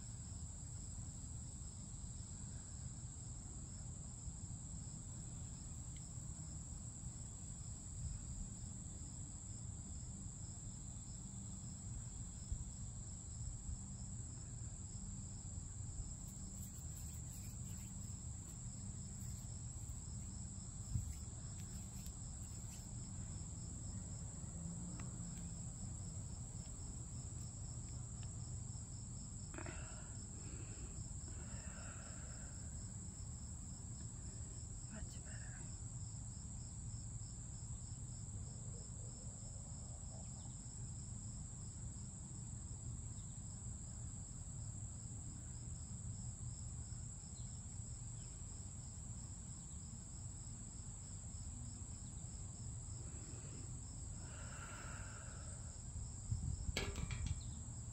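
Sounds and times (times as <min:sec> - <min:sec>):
insects chirring: 0:04.7 - 0:38.6, 0:42.4 - 0:57.9.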